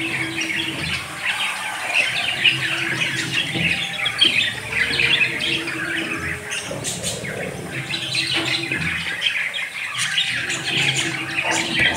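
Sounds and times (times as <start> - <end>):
budgerigars chattering: 0.0 - 11.9.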